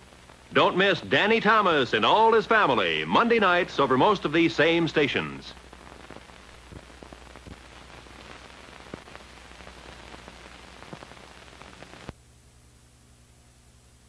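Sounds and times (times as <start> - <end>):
faint low hum: 0.0 - 14.0
soundtrack hiss with clicks: 0.0 - 14.0.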